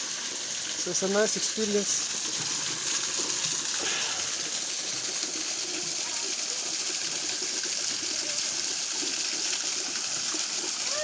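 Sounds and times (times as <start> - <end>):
mountain stream water rushing: 0.0 - 11.0.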